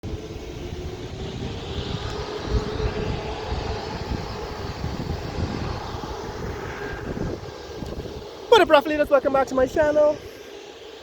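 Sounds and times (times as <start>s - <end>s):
wind rumble on microphone: 0.0s - 10.9s
aircraft engines droning: 0.0s - 11.0s.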